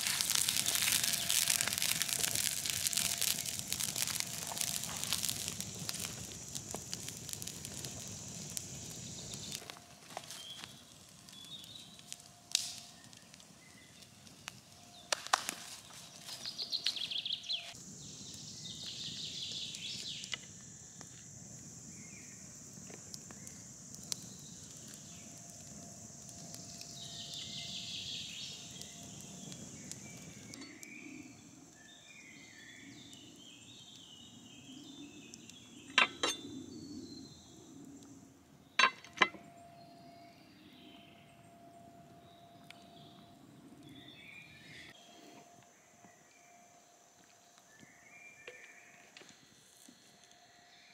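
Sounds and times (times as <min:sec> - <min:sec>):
birds chirping: 0:00.0 - 0:20.7, 0:21.9 - 0:46.4
campfire crackling: 0:00.0 - 0:39.4, 0:40.2 - 0:48.3
steady high hiss: 0:00.0 - 0:50.9.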